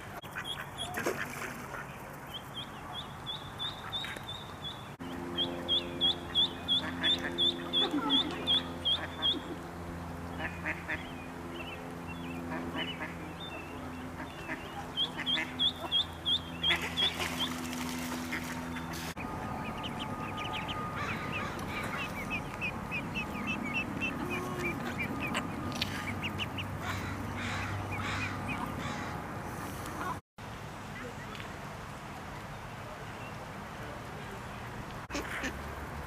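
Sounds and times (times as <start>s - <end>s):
ducklings peeping: 0.0s - 9.7s, 10.3s - 30.2s
steady low hum: 0.0s - 30.2s.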